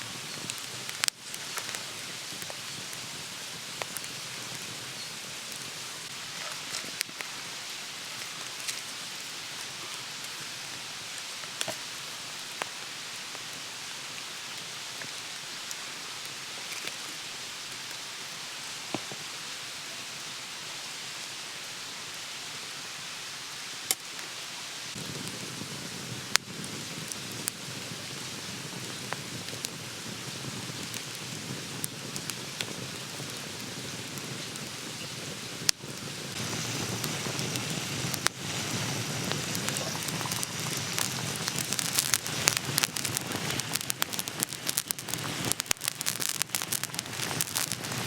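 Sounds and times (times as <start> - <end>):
fire popping and crackling: 0.0 - 17.1, 24.9 - 48.0
campfire hissing: 0.0 - 48.0.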